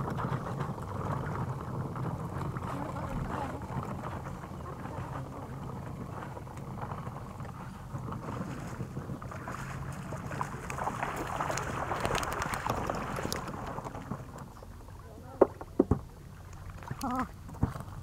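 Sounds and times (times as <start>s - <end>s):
water splashing: 0.0s - 18.0s
wind rumbling on microphone: 0.0s - 18.0s.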